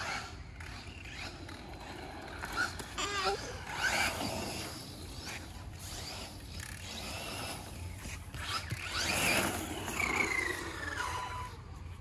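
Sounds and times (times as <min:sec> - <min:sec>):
toy truck motor whining: 0:01.3 - 0:11.6.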